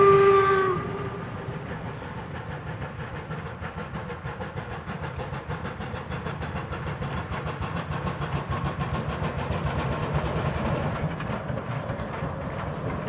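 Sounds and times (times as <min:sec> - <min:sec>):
steam locomotive exhaust chuffs: 0:00.0 - 0:13.0.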